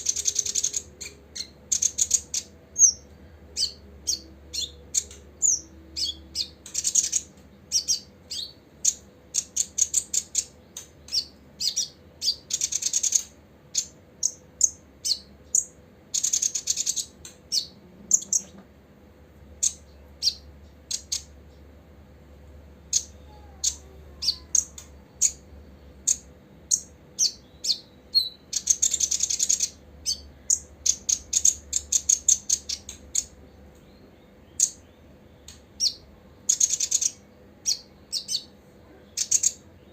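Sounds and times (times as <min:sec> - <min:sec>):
bird chattering trill: 0:00.0 - 0:18.5, 0:19.6 - 0:21.5, 0:22.8 - 0:33.5, 0:35.8 - 0:39.6
bird chirping: 0:00.0 - 0:18.7, 0:19.5 - 0:21.8, 0:22.8 - 0:39.9.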